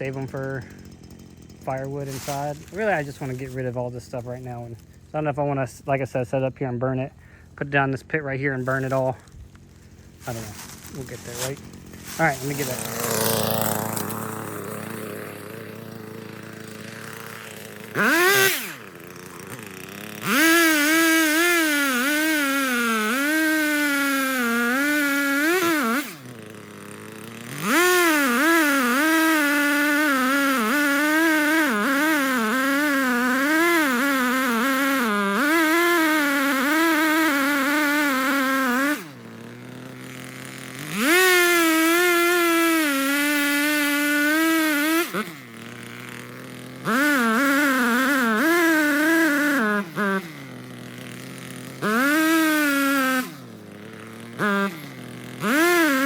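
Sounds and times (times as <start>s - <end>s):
chainsaw cutting wood: 0.0s - 5.6s, 8.4s - 56.0s
chainsaw idling: 0.0s - 56.0s.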